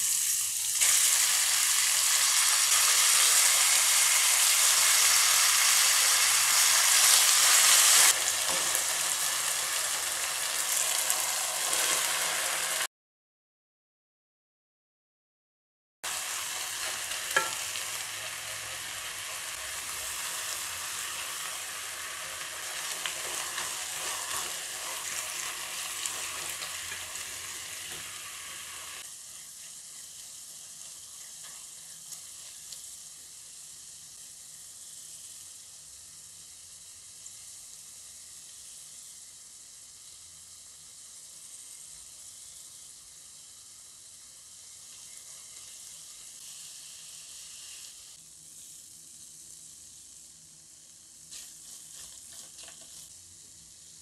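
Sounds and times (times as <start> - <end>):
vegetables sizzling in oil: 0.0 - 12.9, 16.0 - 54.0.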